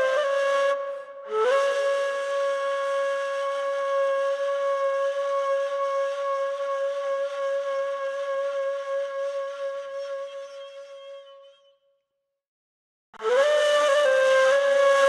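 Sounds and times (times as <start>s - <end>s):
flute-like wind instrument note: 0.0s - 11.7s, 13.2s - 15.0s.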